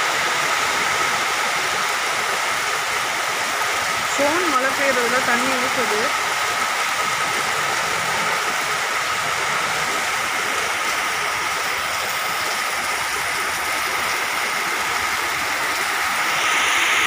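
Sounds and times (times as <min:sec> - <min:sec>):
heavy rain: 0:00.0 - 0:17.0
water pouring from drain spout: 0:00.1 - 0:17.0.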